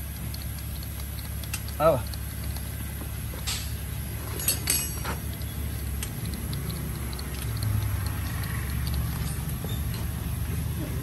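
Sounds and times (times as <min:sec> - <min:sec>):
grease gun metallic clicks: 0:00.0 - 0:03.8, 0:04.4 - 0:10.1.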